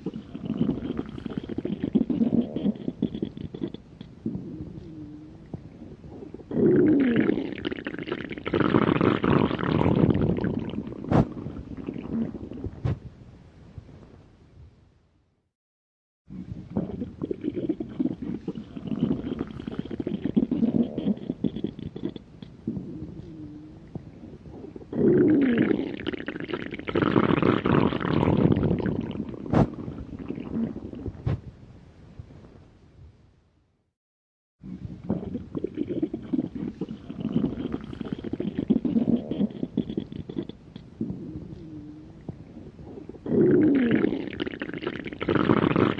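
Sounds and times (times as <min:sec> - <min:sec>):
stomach growling: 0:00.0 - 0:13.1, 0:16.3 - 0:31.5, 0:34.6 - 0:45.9.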